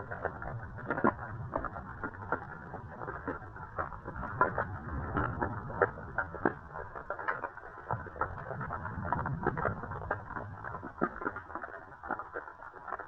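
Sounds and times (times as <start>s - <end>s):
dull rumble: 0.0s - 11.8s
irregular clicks and crackles: 0.0s - 13.0s
muffled underwater water movement: 0.0s - 13.0s.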